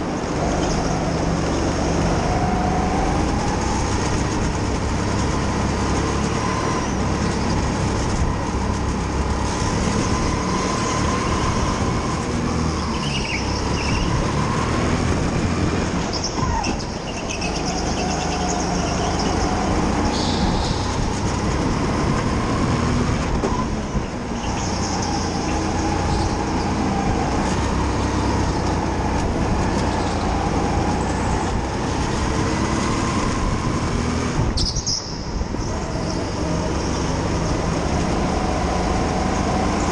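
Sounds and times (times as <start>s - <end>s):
go-kart engine drone: 0.0s - 39.9s.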